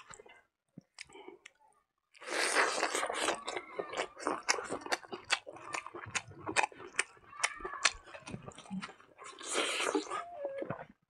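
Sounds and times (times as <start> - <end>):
person chewing: 0.0 - 10.9.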